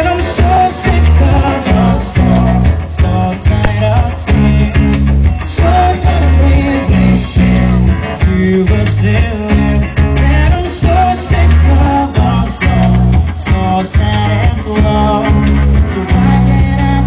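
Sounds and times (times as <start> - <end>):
heavy bass line: 0.0 - 17.0
man singing: 0.0 - 17.0.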